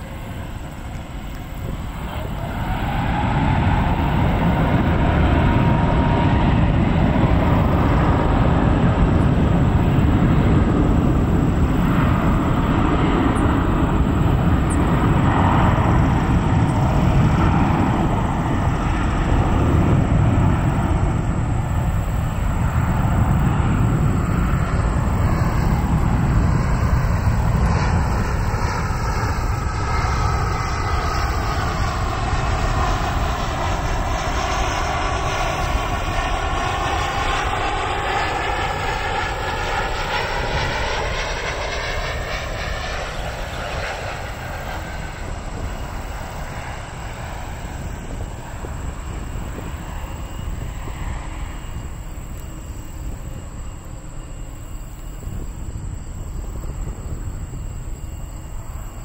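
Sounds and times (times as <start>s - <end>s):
faint engine whine: 0.0s - 59.0s
jet engines rumbling: 0.0s - 59.0s.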